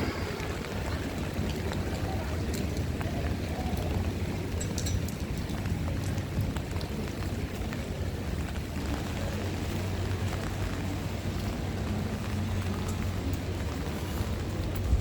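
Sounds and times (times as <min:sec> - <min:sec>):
heavy rain: 0:00.0 - 0:15.0
wind buffeting microphone: 0:00.0 - 0:15.0.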